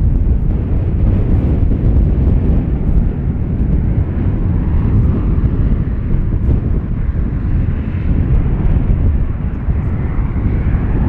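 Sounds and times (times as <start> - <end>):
low rumble of towed aircraft: 0.0 - 11.0.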